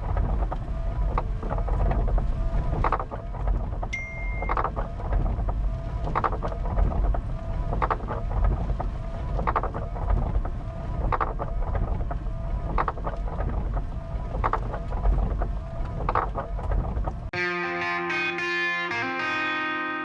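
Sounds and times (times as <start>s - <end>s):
heavy rain on vehicle roof: 0.0s - 17.3s
windshield wipers swishing: 0.0s - 17.3s.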